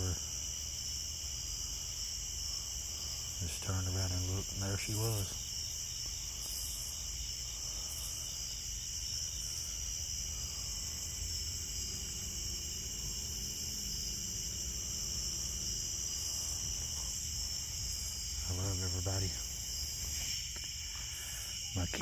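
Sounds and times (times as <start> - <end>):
crickets trilling: 0.0 - 22.0
insect buzzes: 0.0 - 22.0.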